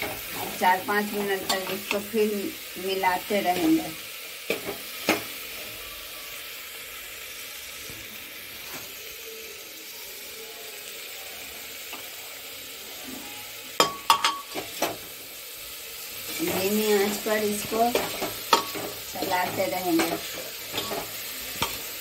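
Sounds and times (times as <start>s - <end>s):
food sizzling: 0.0s - 22.0s.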